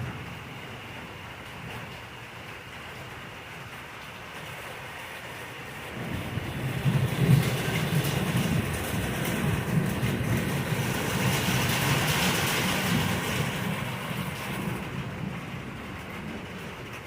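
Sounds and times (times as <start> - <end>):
rolling rumble of thunder: 0.0 - 17.0.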